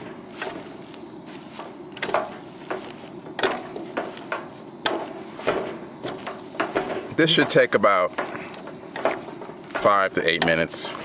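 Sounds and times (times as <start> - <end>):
leaves rustling: 0.0 - 11.0
steady low hiss: 0.0 - 11.0
wooden spoon knocking a pot: 2.0 - 10.8.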